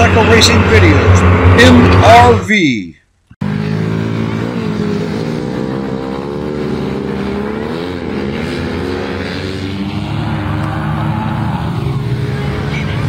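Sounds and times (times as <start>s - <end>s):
motorcycles revving: 0.0s - 13.0s.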